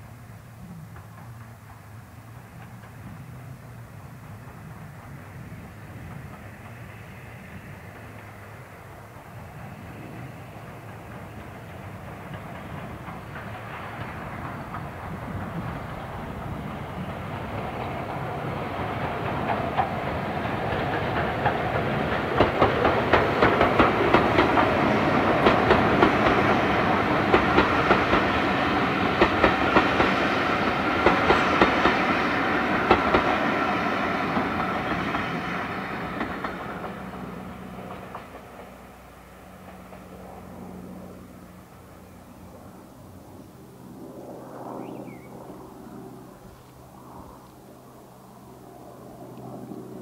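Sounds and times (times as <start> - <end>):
wheels clicking over rail joints: 0.0 - 42.2
steam engine passing: 0.0 - 50.0.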